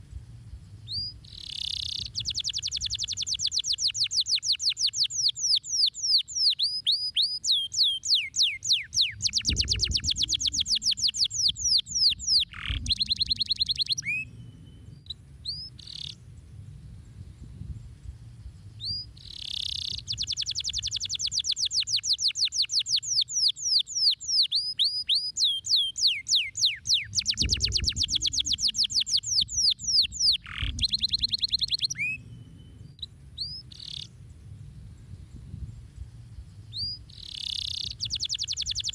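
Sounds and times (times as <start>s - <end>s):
canary singing trills: 0.8s - 16.2s, 18.7s - 34.2s, 36.6s - 38.9s.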